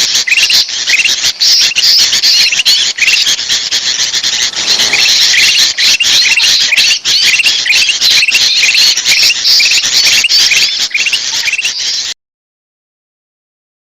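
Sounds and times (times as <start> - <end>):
bulbuls chattering calls: 0.0 - 12.2.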